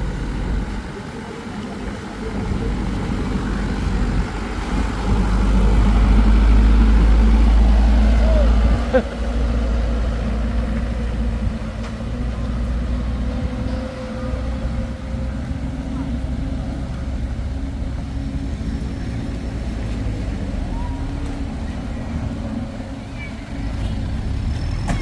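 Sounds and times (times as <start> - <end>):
diesel engine running: 0.0 - 25.0
people's voices: 0.0 - 25.0.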